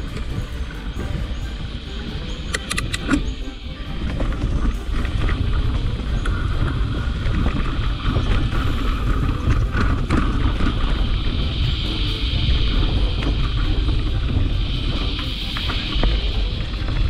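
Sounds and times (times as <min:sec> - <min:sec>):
bike clicks and rattles: 0:00.0 - 0:03.3, 0:04.0 - 0:17.0
wind rumble on microphone: 0:00.0 - 0:17.0
bike tyres on dirt trail: 0:03.3 - 0:17.0.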